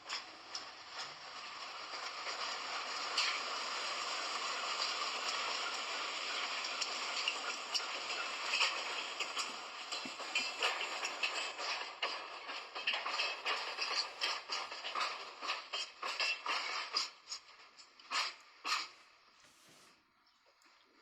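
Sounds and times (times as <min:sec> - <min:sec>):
train wheel and rail noise: 0:00.0 - 0:20.0.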